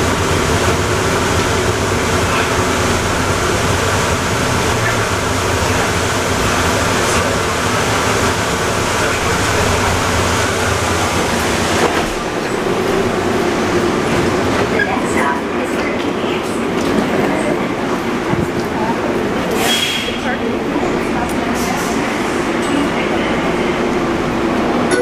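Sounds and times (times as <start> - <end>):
train rumbling with hiss: 0.0 - 25.0.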